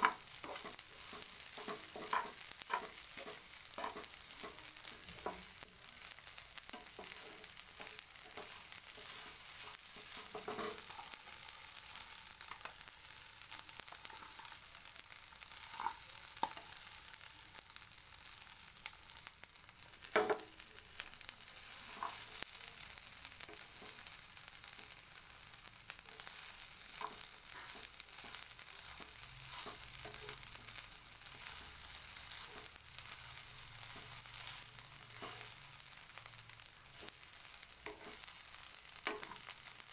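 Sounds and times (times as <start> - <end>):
fried rice sizzling in a pan: 0.0 - 39.9.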